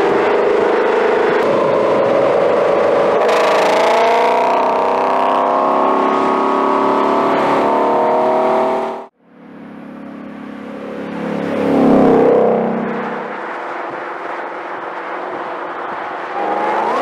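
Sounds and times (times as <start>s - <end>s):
engine exhaust roaring: 0.0s - 17.0s
quieter engine: 0.0s - 17.0s.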